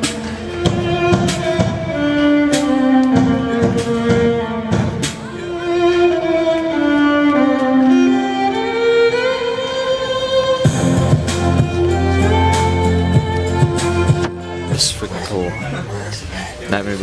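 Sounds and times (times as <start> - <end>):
violin melody over a beat: 0.0 - 15.6.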